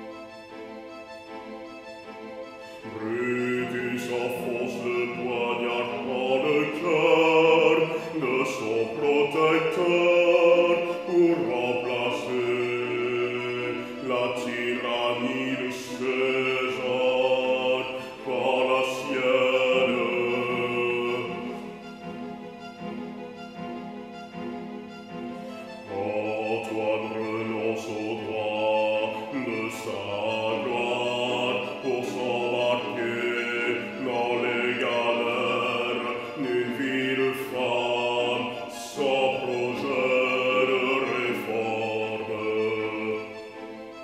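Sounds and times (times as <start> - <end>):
instrumental accompaniment: 0.0 - 44.0
operatic baritone singing: 2.6 - 22.2, 25.8 - 44.0.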